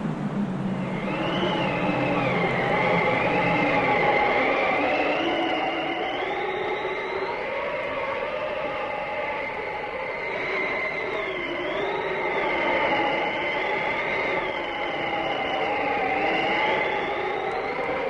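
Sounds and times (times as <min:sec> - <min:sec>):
blizzard wind howling and whistling: 0:00.0 - 0:18.0.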